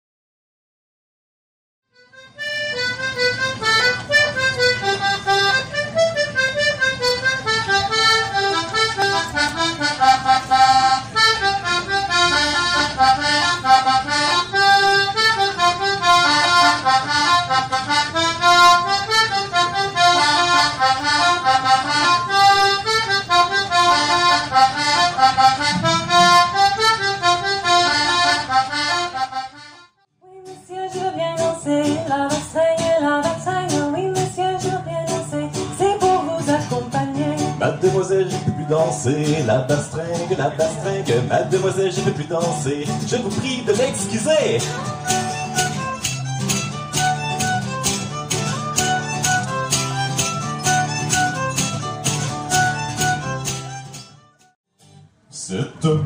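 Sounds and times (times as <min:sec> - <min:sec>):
button accordion folk tune: 0:01.9 - 0:30.1, 0:36.0 - 0:54.6.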